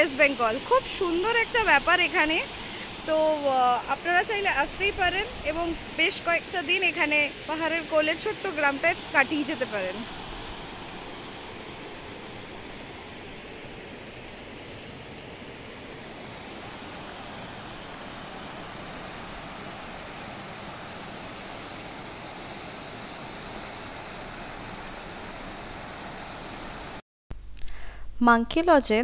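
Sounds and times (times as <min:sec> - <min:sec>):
river rushing over stones: 0:01.0 - 0:27.0.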